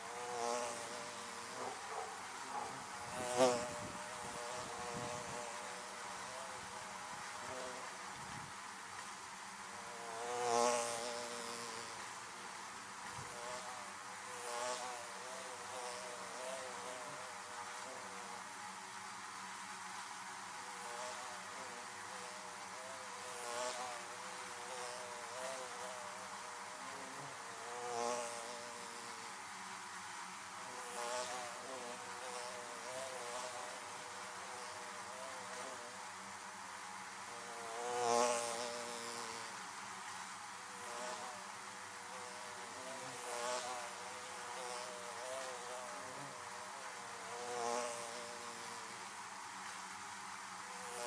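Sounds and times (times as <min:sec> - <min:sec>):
honeybees buzzing: 0:00.0 - 0:51.0.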